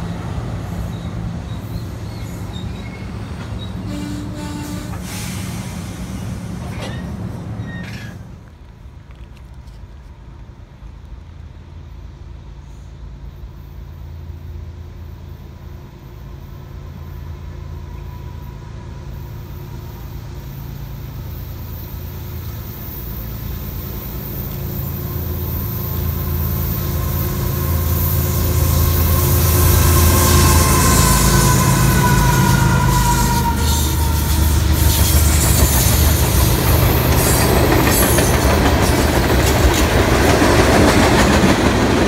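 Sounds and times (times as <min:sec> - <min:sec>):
diesel locomotives rumbling: 0:00.0 - 0:42.0
passing commuter train: 0:00.0 - 0:42.0.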